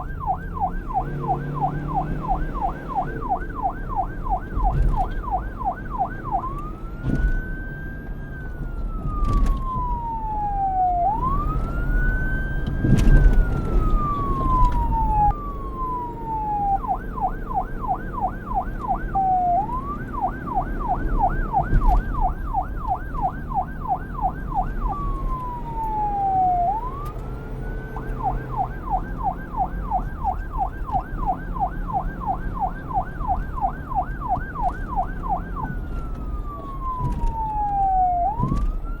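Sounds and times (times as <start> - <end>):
police siren wailing and yelping: 0.0 - 39.0.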